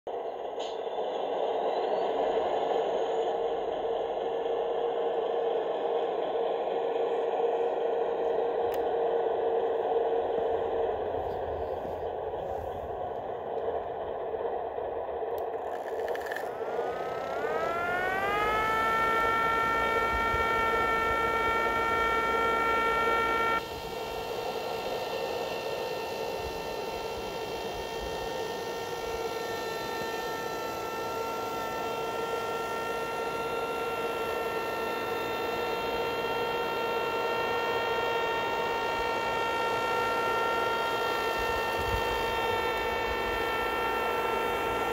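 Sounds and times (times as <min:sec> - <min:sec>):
steady mechanical hum: 0:00.1 - 0:44.9
electric motor whine: 0:05.0 - 0:44.9.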